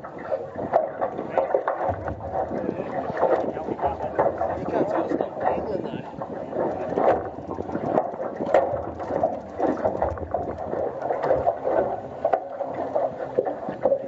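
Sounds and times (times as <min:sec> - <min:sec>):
water sloshing against hull: 0:00.0 - 0:14.0
wind noise: 0:00.5 - 0:12.0.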